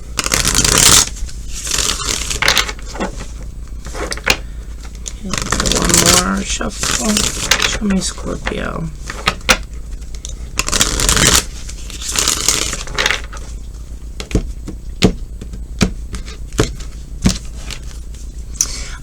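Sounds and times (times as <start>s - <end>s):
cards being shuffled: 0.2s - 13.6s, 15.4s - 18.4s.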